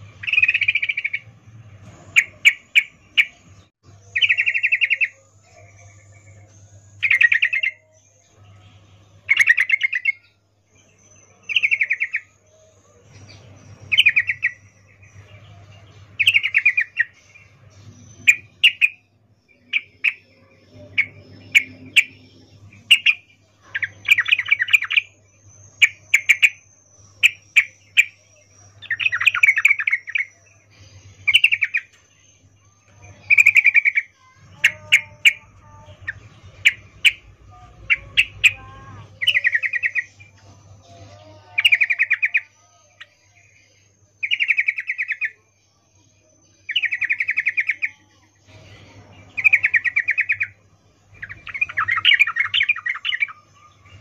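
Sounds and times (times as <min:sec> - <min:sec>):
faint high twittering: 0:00.0 - 0:54.0.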